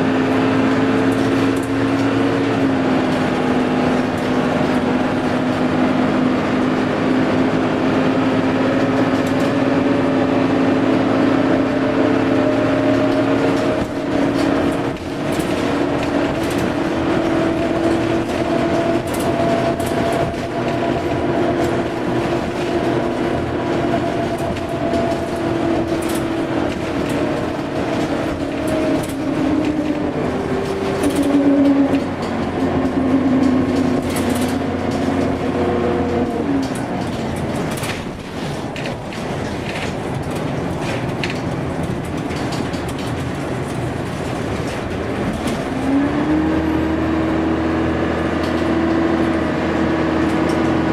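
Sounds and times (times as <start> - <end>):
bus engine drone with whine: 0.0 - 50.9
rattles and clicks from bus body: 0.0 - 50.9.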